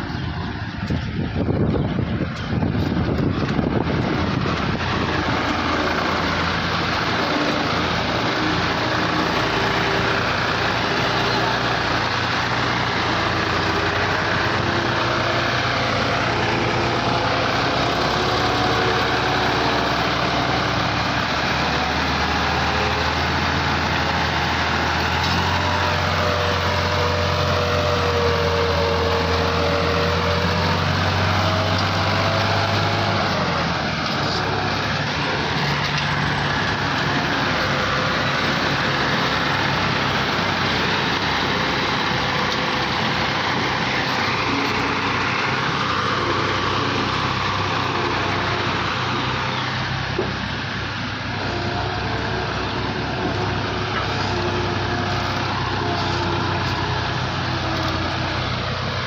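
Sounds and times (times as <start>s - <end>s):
deeper engine hum: 0.0s - 59.0s
tractor diesel engines running: 0.0s - 59.0s.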